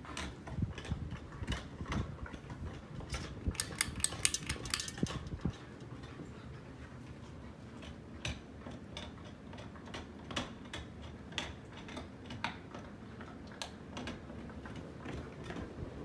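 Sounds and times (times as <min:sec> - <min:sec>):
ceiling fan clicks: 0:00.0 - 0:06.2, 0:07.8 - 0:16.0
ceiling fan hum: 0:00.0 - 0:16.0.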